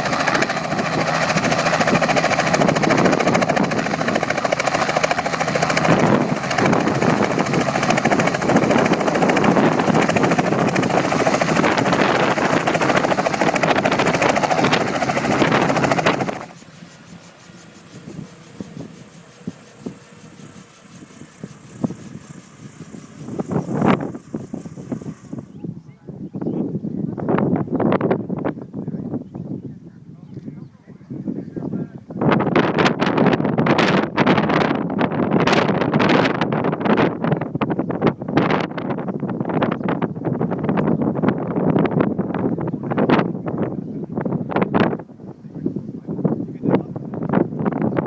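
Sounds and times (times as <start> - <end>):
helicopter running: 0.0 - 28.5, 31.6 - 48.0.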